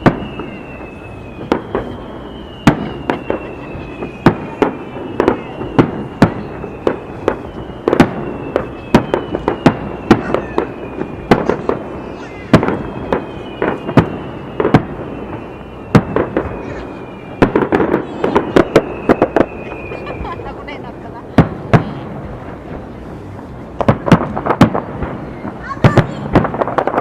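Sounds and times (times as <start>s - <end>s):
high whistles gliding down: 0.0s - 21.3s, 22.3s - 25.8s
fireworks shells bursting: 0.0s - 27.0s.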